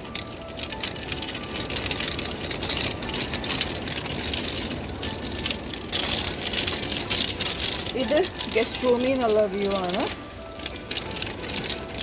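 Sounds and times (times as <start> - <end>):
hail and heavy rain: 0.0 - 12.0.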